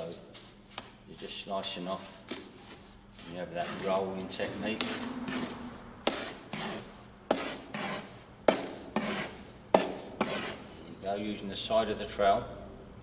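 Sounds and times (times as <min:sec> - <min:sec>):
trowel scraping mortar: 0:00.0 - 0:10.9.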